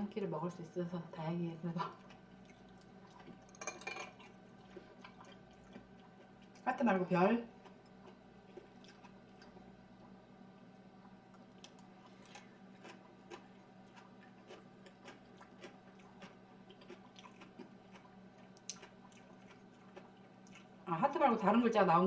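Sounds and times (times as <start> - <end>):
low steady hum: 0.0 - 22.0
quiet chewing: 1.7 - 6.7, 7.5 - 20.8.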